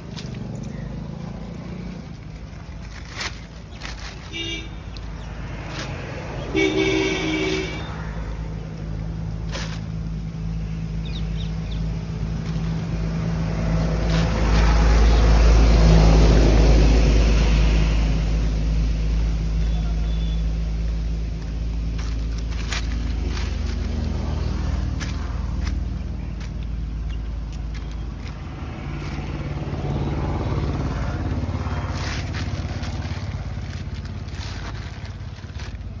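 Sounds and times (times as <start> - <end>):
plastic bag crinkling: 0.0 - 10.5, 11.8 - 17.2, 20.8 - 36.0
engine humming: 0.0 - 36.0.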